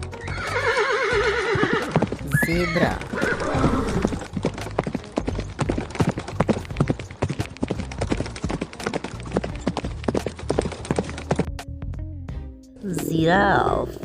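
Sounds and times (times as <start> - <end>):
hooves clattering on hard ground: 0.0 - 11.8.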